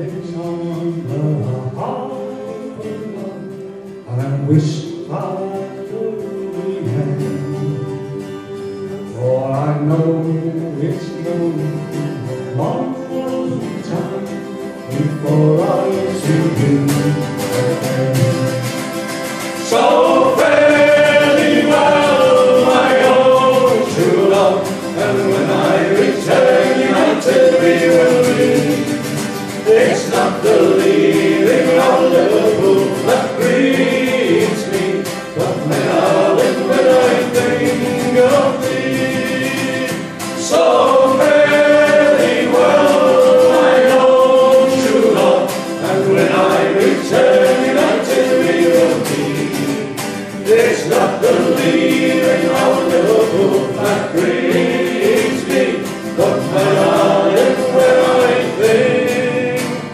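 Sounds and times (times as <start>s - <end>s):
acoustic guitars strumming: 0.0s - 59.9s
male group singing in harmony: 0.0s - 59.9s.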